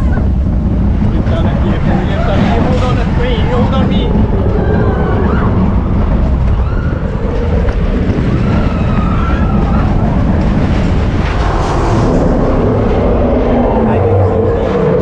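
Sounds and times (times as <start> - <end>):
roller coaster rumble: 0.0 - 15.0.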